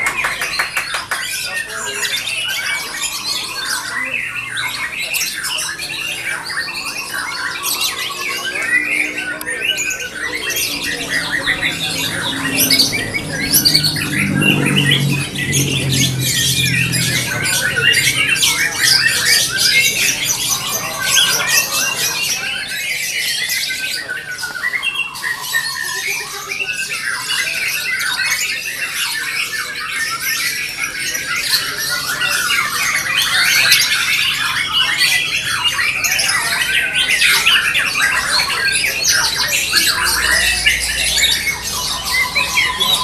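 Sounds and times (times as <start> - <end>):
birds singing: 0.0 - 43.0.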